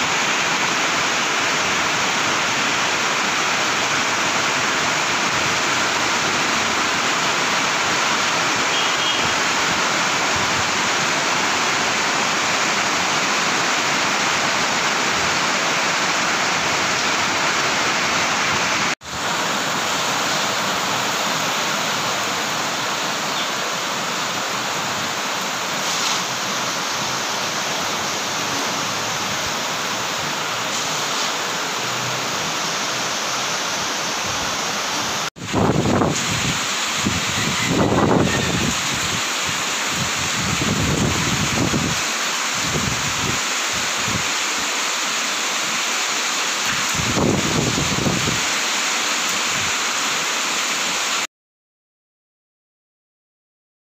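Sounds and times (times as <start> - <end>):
heavy rain pouring: 0.0 - 51.3.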